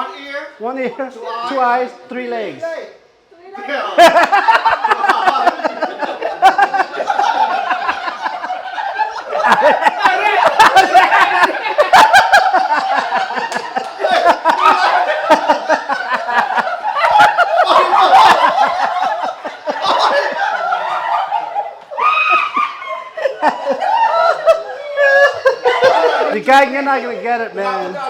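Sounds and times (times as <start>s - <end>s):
overlapping voices: 3.8s - 26.5s
people laughing loudly: 3.8s - 28.0s.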